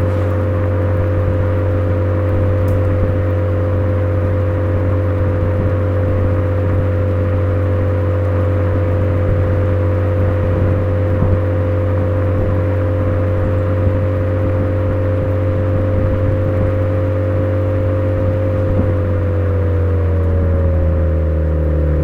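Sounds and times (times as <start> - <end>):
car engine and exhaust drone: 0.0 - 22.0.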